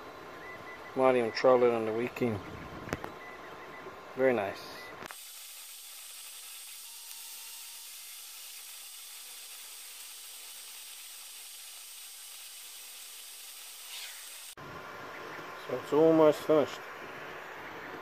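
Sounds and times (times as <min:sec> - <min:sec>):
cooling fans hissing: 0:00.0 - 0:18.0.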